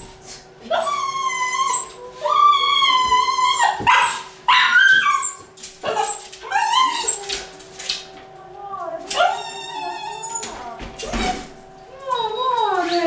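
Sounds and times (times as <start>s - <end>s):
dog whining: 0.0s - 7.6s, 9.1s - 13.0s.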